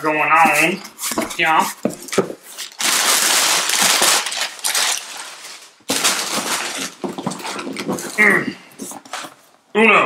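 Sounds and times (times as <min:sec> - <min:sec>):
packing paper rustling: 0:00.4 - 0:09.5.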